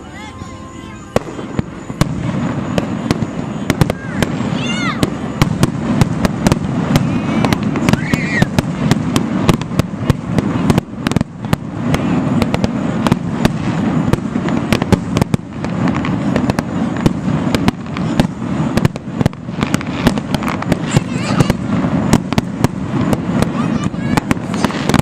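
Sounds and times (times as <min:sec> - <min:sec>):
fireworks bangs and crackles: 0:00.0 - 0:25.0
low rumble of bursting shells: 0:01.2 - 0:25.0.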